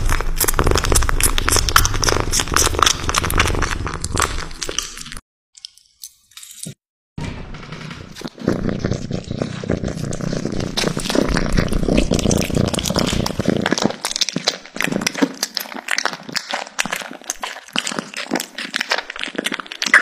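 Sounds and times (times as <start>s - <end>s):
cat chewing: 0.0s - 5.1s, 8.4s - 20.0s.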